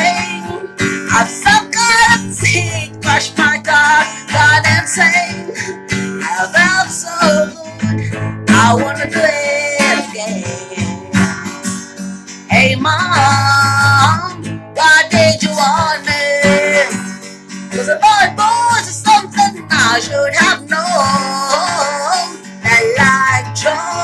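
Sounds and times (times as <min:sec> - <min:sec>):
woman singing: 0:00.0 - 0:11.8, 0:12.5 - 0:24.0
acoustic guitar strumming: 0:00.0 - 0:24.0.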